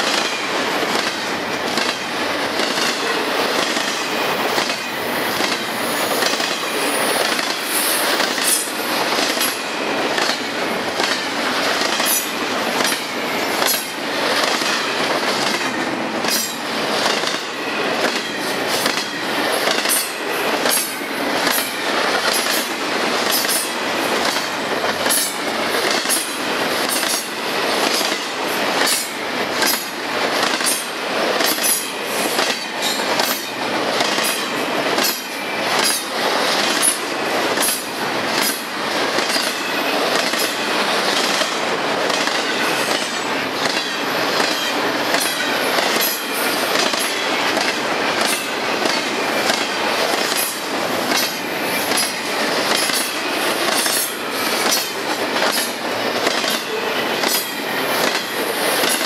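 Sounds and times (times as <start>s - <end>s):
steel wheels rushing on rail: 0.0s - 59.0s
wheels clickety-clack on rail joints: 0.0s - 59.0s.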